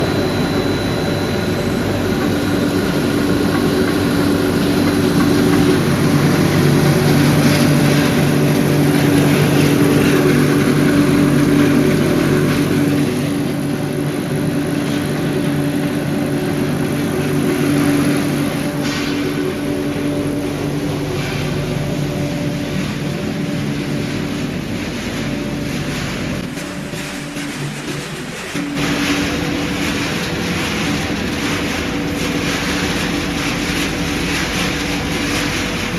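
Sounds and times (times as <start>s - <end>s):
machinery motors humming: 0.0s - 35.9s.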